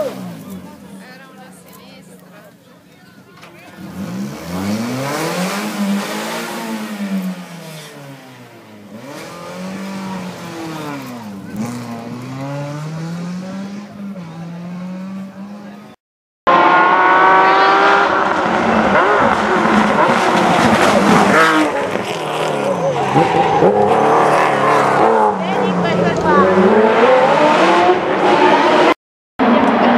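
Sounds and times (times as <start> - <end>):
rally car engines revving: 0.0 - 2.3, 3.2 - 29.9.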